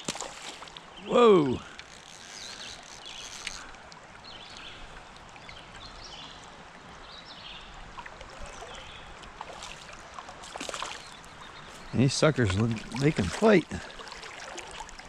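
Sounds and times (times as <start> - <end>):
stream flowing and rippling: 0.0 - 15.0.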